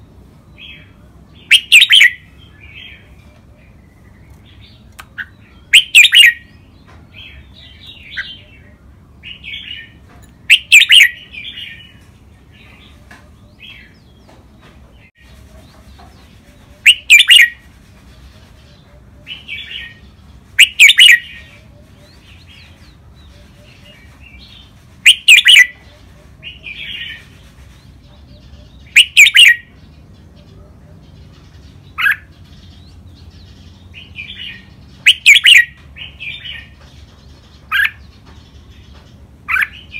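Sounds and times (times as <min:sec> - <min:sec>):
bird song phrases: 0:00.0 - 0:39.9
soft bird chirps: 0:00.6 - 0:39.9.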